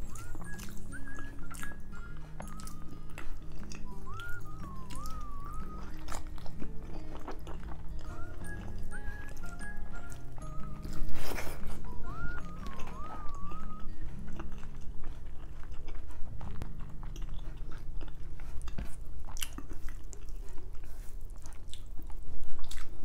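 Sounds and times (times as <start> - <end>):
person chewing with mouth clicks: 0.0 - 23.0.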